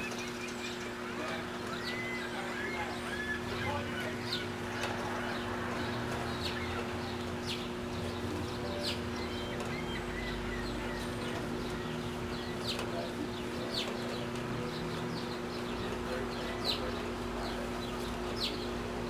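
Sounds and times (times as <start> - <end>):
ducklings peeping: 0.0 - 19.0
steady low hum: 0.0 - 19.0.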